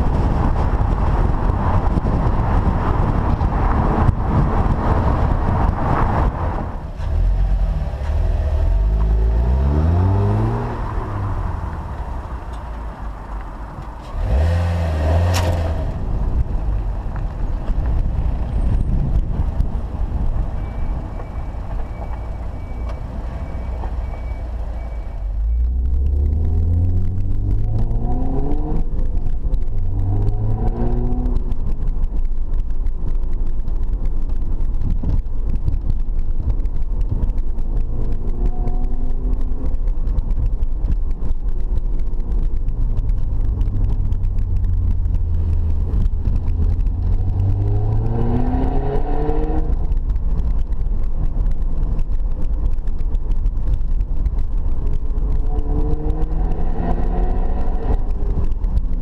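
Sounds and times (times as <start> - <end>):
car engine accelerating: 0.0 - 59.0
road rumble inside car: 0.0 - 59.0.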